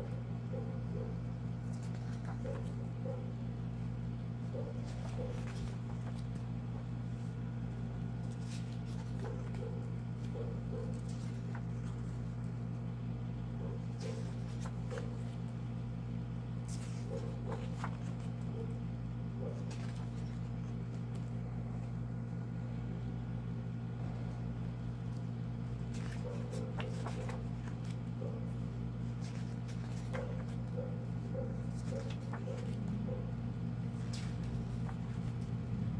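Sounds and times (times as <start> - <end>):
steady low hum: 0.0 - 35.9
book pages rustling: 0.4 - 22.3, 24.2 - 35.9.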